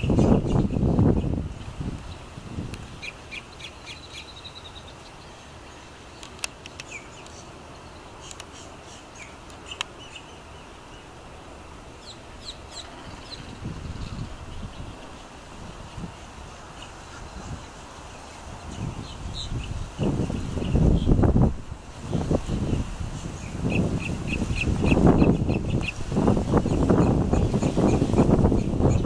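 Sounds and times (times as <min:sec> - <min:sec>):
birds chirping: 0:00.0 - 0:21.5, 0:22.1 - 0:29.0.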